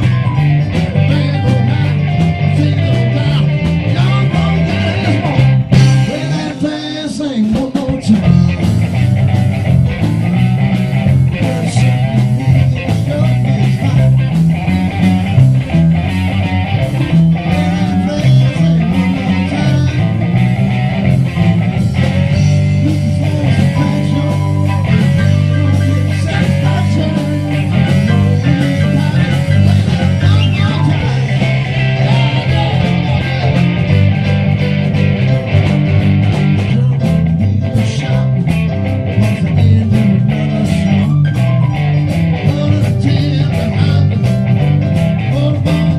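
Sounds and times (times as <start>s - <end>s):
repeating bass line: 0.0s - 45.9s
rock guitar: 0.0s - 45.9s.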